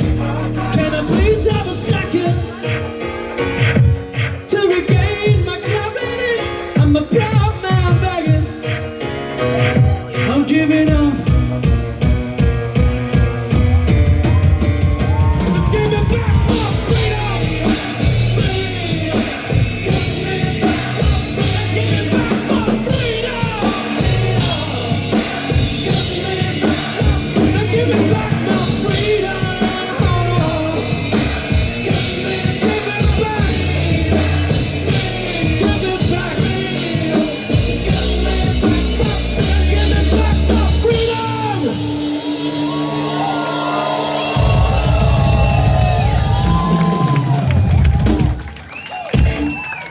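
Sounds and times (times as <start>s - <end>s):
sustained bass notes: 0.0s - 2.6s, 9.7s - 48.0s
driving drum kit: 0.0s - 8.8s, 9.7s - 49.9s
rock band playing: 0.0s - 49.9s.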